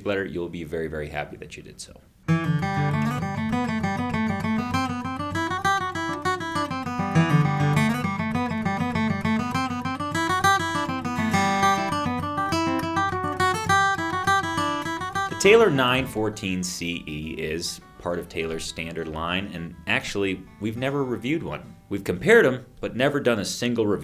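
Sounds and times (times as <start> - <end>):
acoustic guitar playing: 2.2 - 24.0.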